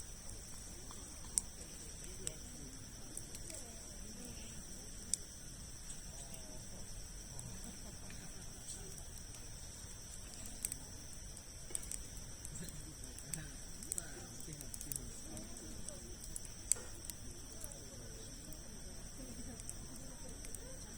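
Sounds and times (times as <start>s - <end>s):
campfire crackling and popping: 0.0s - 20.9s
faint distant voices: 0.0s - 20.9s
insects droning: 0.0s - 20.9s.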